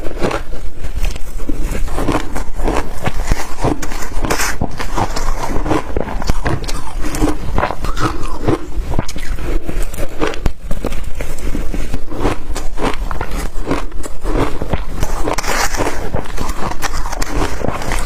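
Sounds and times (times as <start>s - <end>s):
person crunching ice: 0.0s - 18.0s.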